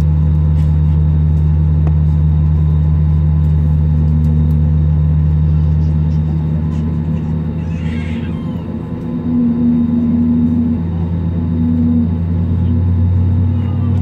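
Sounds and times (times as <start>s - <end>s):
airliner cabin hum: 0.0s - 14.0s.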